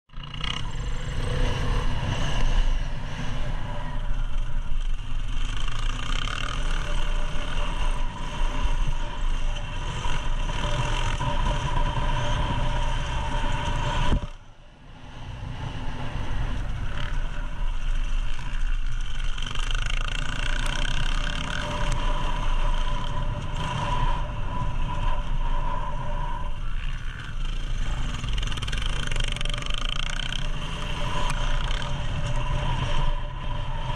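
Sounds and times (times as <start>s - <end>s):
dirt bike engine revving: 0.1s - 14.4s, 15.4s - 33.9s
wind rumble on microphone: 0.2s - 33.9s.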